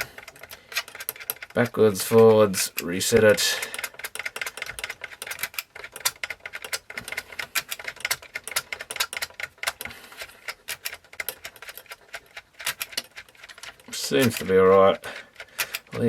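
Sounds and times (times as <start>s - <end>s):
tape counter clicking: 0.0s - 16.0s.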